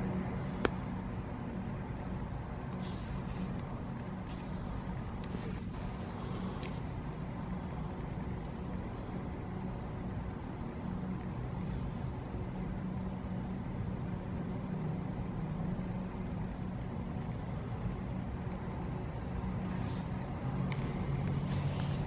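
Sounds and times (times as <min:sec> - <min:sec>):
steady low rumble and hum: 0:00.0 - 0:22.0.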